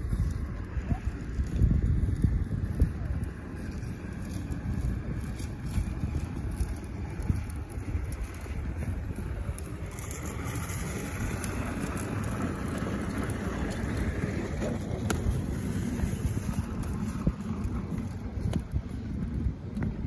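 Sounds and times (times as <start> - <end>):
plastic wheels rolling over ice: 0.0 - 20.0.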